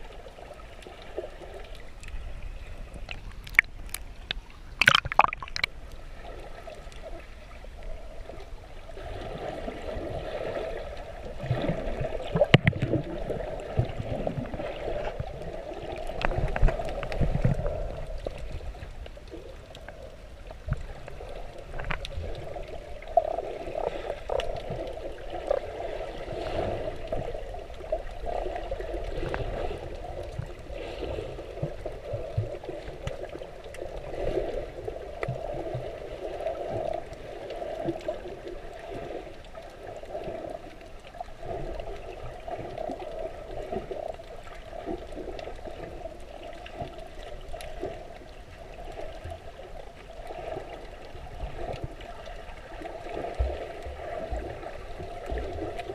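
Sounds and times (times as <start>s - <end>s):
water sloshing and gurgling: 0.0s - 55.9s.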